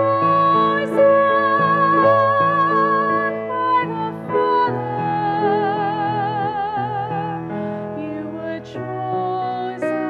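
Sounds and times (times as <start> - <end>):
piano accompaniment: 0.0 - 10.0.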